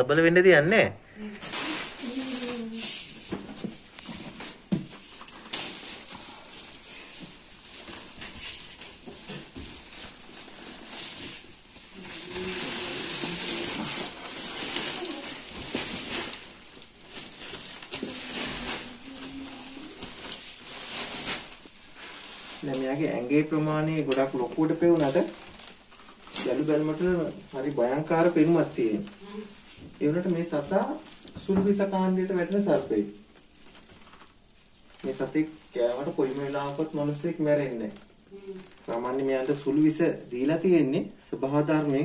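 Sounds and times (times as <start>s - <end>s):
woven sacks rustling and scraping: 1.5s - 40.6s.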